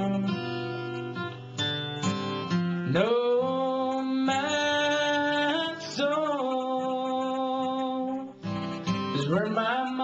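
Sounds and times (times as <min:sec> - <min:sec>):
man singing a country ballad: 0:00.0 - 0:01.0, 0:02.5 - 0:10.0
acoustic guitar: 0:00.0 - 0:10.0.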